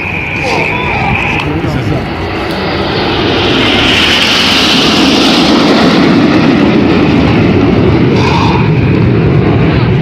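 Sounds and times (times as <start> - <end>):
jets flying past: 0.0 - 10.0.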